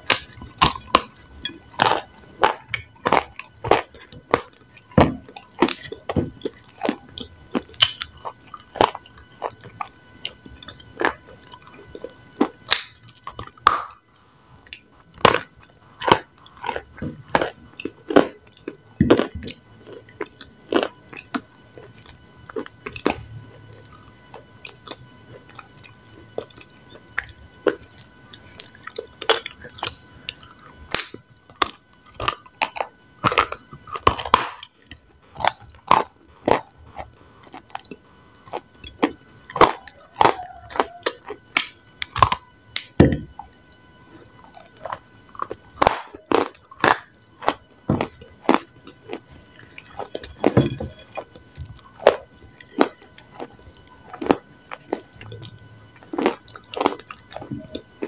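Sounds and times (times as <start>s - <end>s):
biting and chewing crunches: 0.0s - 58.0s.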